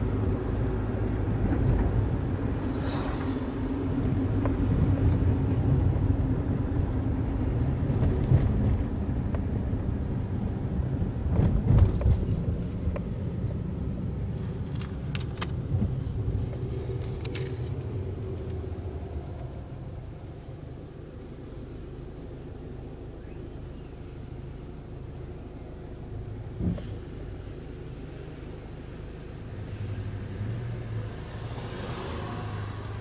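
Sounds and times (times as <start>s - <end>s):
engine and road rumble: 0.0s - 33.0s.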